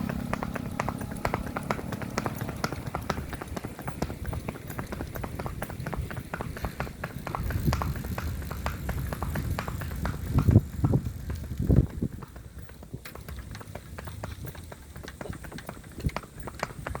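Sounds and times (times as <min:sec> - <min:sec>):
hooves clip-clopping on road: 0:00.0 - 0:17.0.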